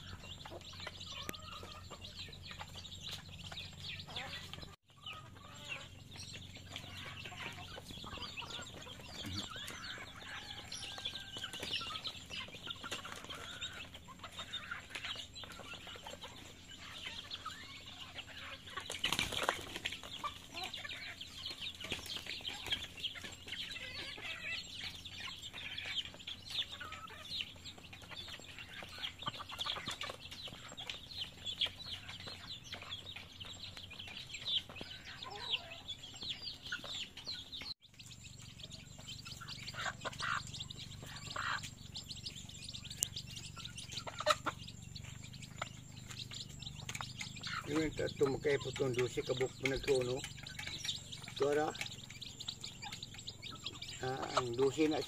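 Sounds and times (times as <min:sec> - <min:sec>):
chickens clucking: 0:00.0 - 0:55.0
chickens pecking: 0:00.0 - 0:55.0.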